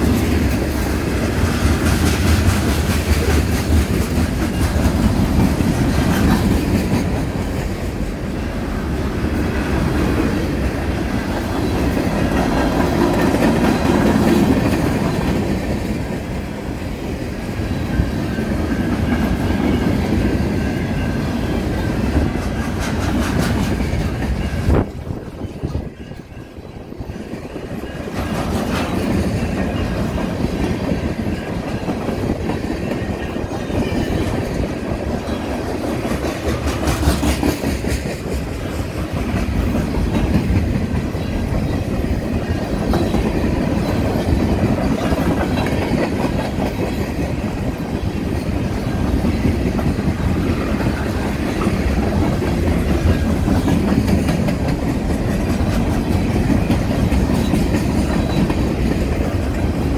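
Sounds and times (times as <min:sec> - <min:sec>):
train wheels clacking over rail joints: 0:00.0 - 0:16.4, 0:17.8 - 0:59.9
train rumble: 0:00.0 - 0:59.9.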